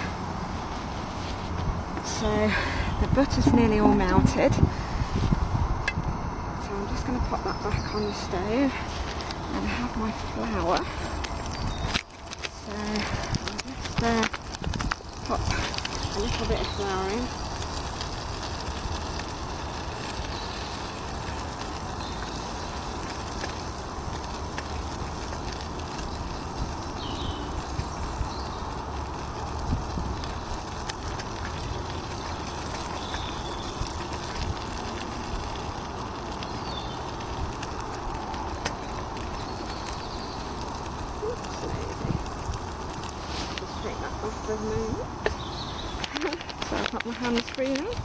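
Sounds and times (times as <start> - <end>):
gas stove burner hissing: 0.0 - 46.0.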